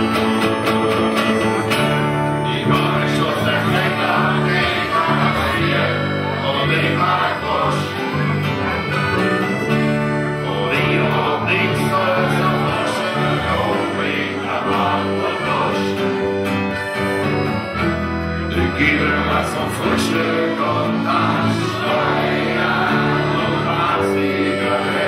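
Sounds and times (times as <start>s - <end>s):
person singing: 0.0s - 17.7s, 18.5s - 25.0s
accordion: 0.0s - 25.0s
acoustic guitar: 0.0s - 25.0s.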